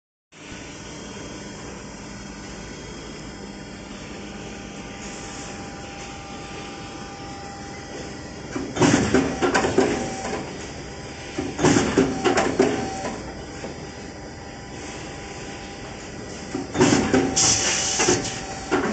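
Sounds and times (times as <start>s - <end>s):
machine humming: 0.4s - 18.9s.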